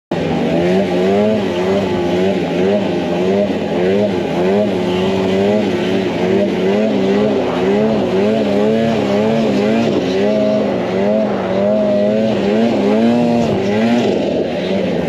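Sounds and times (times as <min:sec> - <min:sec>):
snowmobile engine revving: 0:00.3 - 0:15.0.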